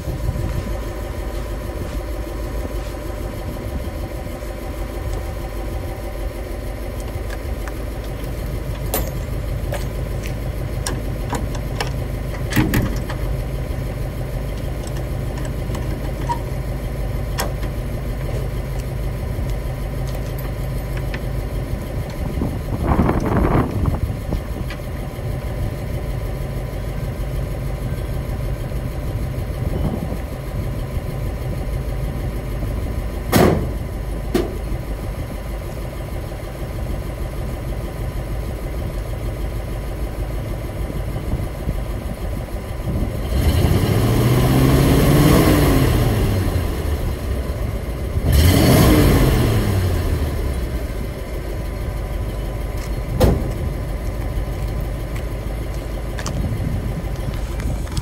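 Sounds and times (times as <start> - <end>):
truck engine idling and revving: 0.0 - 58.0.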